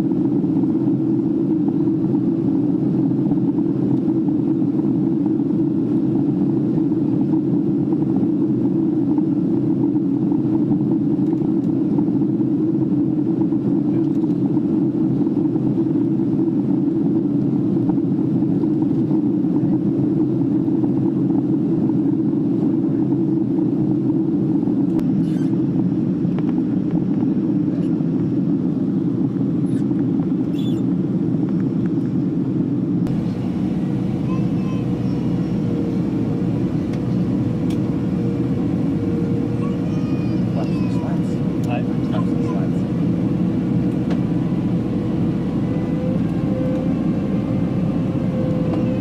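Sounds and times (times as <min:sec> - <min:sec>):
airplane cabin engine roar: 0:00.0 - 0:49.0.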